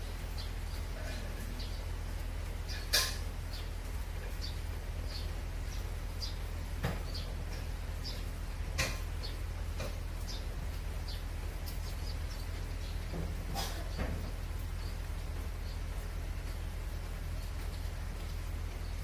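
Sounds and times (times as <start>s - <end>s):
swallows chirping: 0.0s - 19.0s
tractor engine rumbling: 0.0s - 19.0s.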